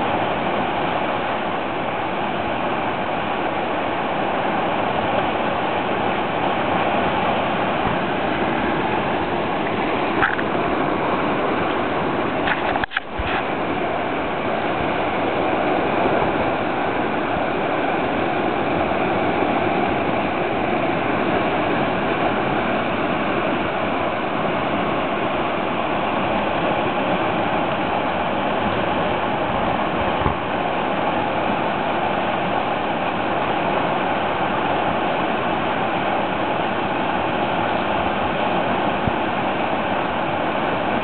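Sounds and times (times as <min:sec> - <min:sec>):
whitewater rapid roaring: 0:00.0 - 0:41.0.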